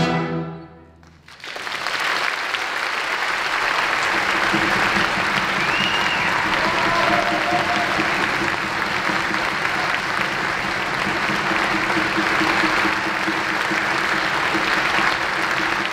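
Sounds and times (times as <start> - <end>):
audience applause: 1.0 - 15.9.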